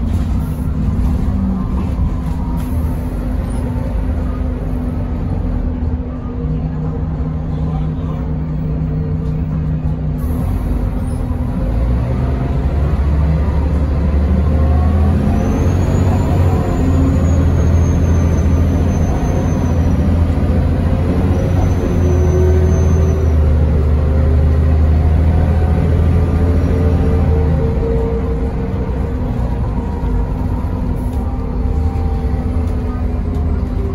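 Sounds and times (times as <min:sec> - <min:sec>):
bus engine running under load: 0:00.0 - 0:33.9.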